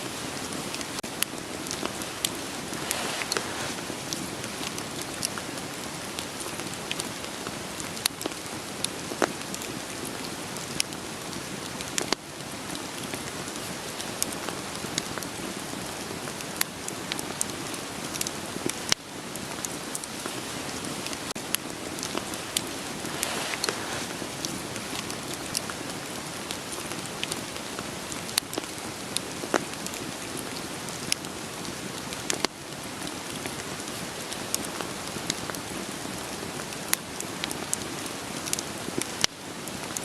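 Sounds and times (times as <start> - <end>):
burning wood crackling: 0.0 - 40.0
rain hiss: 0.0 - 40.0.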